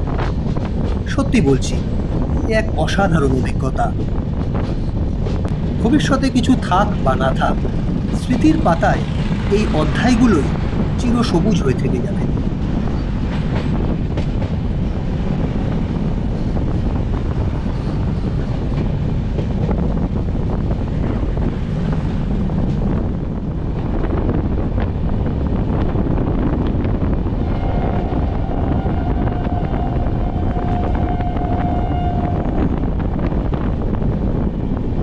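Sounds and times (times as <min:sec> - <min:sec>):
rushing wind: 0:00.0 - 0:35.0
train wheels rumbling on rails: 0:00.0 - 0:35.0.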